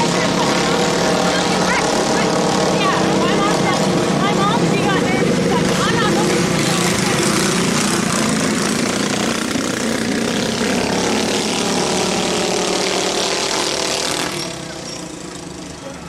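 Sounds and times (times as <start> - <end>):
racing minibike engines: 0.0 - 16.0.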